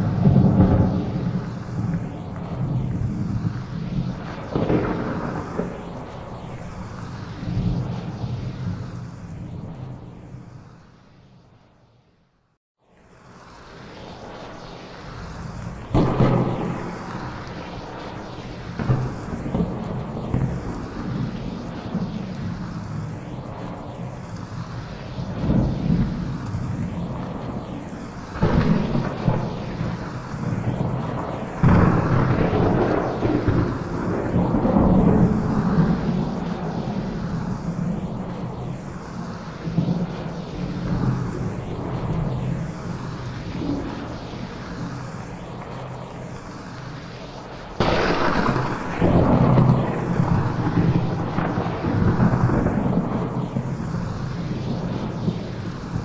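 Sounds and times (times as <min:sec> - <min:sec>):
heavy thunder rumbling: 0:00.0 - 0:10.8, 0:15.2 - 0:56.0
steady rain: 0:00.0 - 0:11.2, 0:12.9 - 0:56.0.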